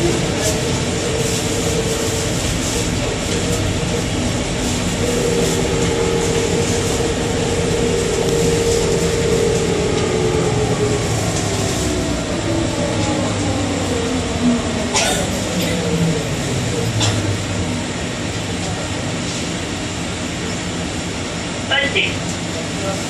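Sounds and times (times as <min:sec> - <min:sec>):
train rumble with motor whine: 0:00.0 - 0:23.0.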